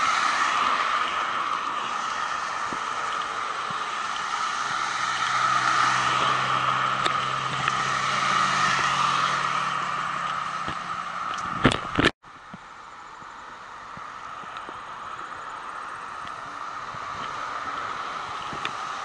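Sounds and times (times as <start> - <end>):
low engine hum: 0.0 - 19.0
steady rushing noise: 0.0 - 19.0.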